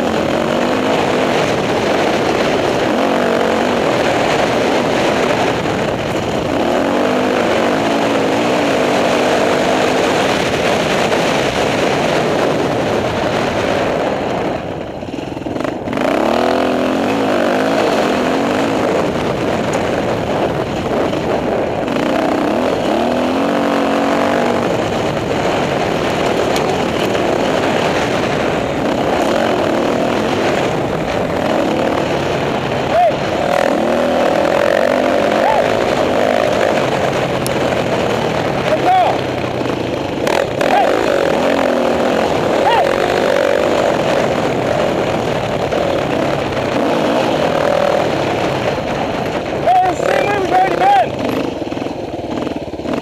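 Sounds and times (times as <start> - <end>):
dirt bike engine revving: 0.0 - 53.0
wind noise: 0.0 - 53.0.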